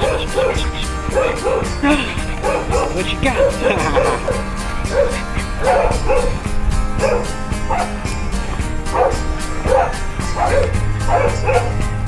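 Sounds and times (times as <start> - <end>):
background music with beat: 0.0 - 12.0
puppies yipping and barking: 0.0 - 12.0.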